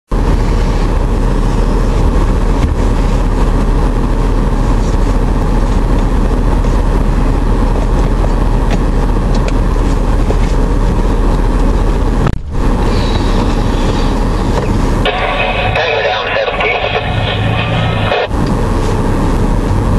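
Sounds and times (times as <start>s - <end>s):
truck engine idling: 0.1s - 19.9s.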